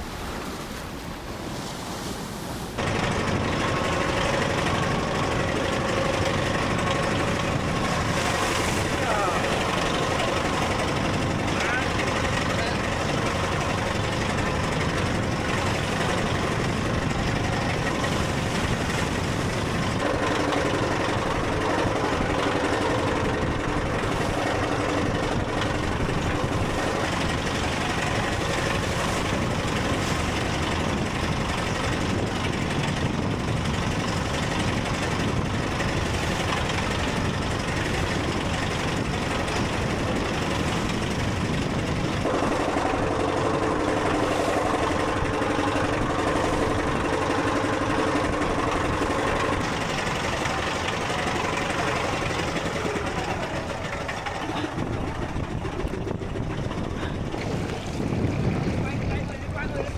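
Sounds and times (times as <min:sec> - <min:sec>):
boat engine running: 0:02.7 - 0:59.9.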